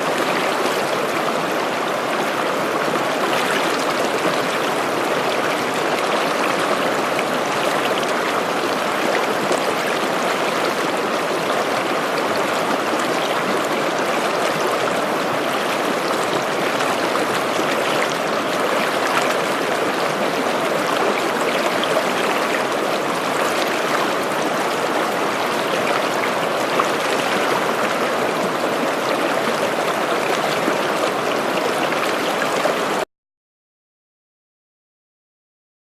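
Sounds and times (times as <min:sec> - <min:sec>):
stream babbling over rocks: 0:00.0 - 0:33.0.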